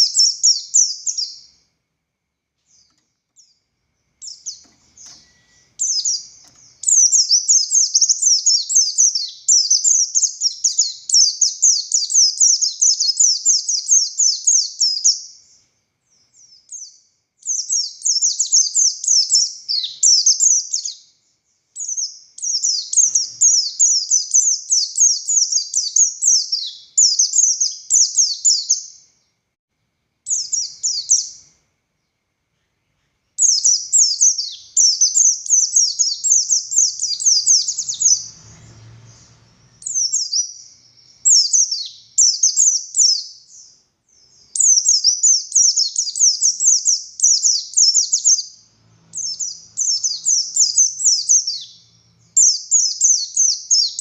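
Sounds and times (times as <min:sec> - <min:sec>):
bird singing rapid chattering notes: 0:00.0 - 0:01.6, 0:02.6 - 0:29.0, 0:30.3 - 0:31.5, 0:32.6 - 0:54.0.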